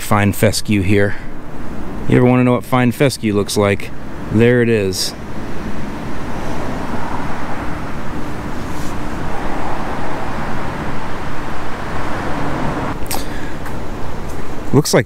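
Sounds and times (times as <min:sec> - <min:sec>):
faint hum: 0:00.0 - 0:15.0
road traffic rumble: 0:00.0 - 0:15.0.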